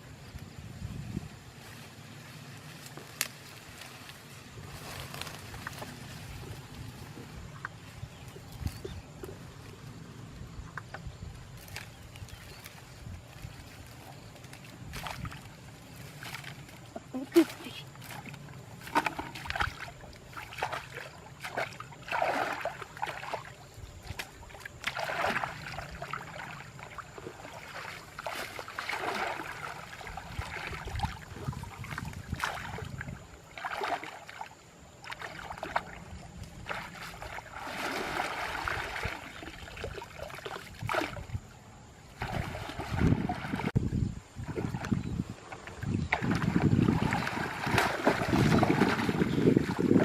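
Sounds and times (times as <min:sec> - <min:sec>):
water splashing and sloshing: 0:00.3 - 0:50.0.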